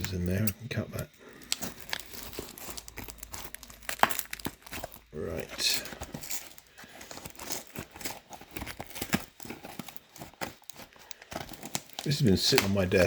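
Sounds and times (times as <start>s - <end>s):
packaging being torn open: 1.0s - 13.0s.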